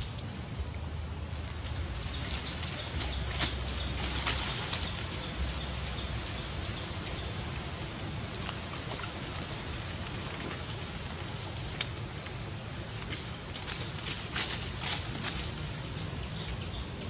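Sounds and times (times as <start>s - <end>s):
dry leaves rustling and crackling: 0.0s - 16.9s
steady high hiss: 0.0s - 17.0s.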